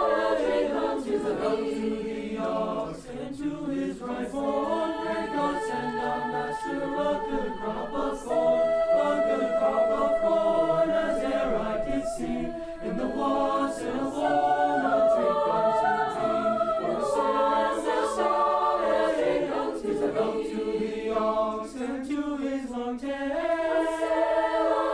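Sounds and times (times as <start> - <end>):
choir singing in harmony: 0.0 - 24.9.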